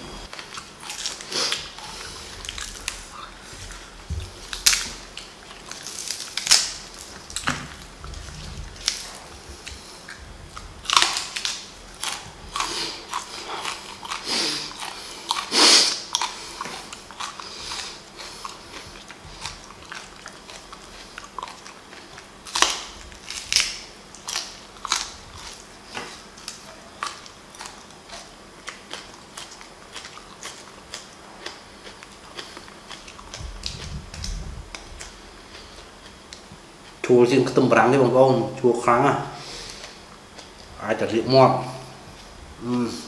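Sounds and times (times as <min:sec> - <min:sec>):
person crunching green onions: 0:00.3 - 0:37.0.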